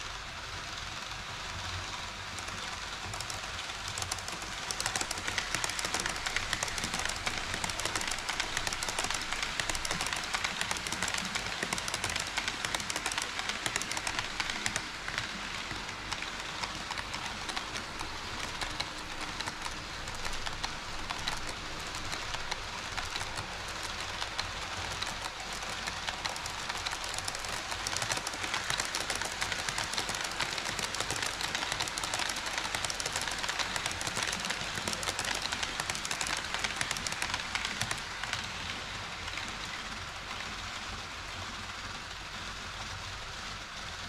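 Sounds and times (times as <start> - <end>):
model train rolling rattle: 0.0 - 44.0.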